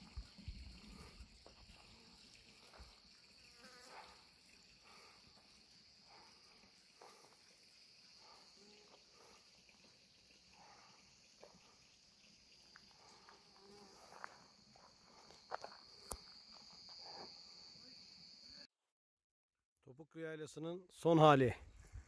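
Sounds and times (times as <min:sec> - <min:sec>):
insects droning: 0:00.0 - 0:18.7.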